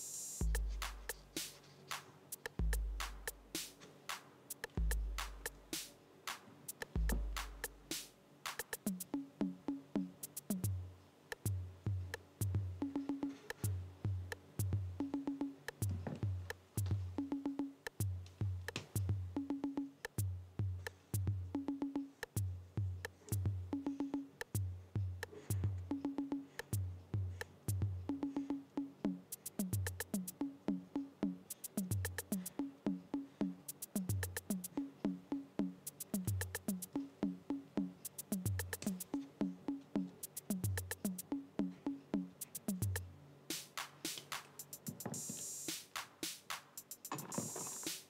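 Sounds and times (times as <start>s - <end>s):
drum machine beat: 0.0s - 48.0s.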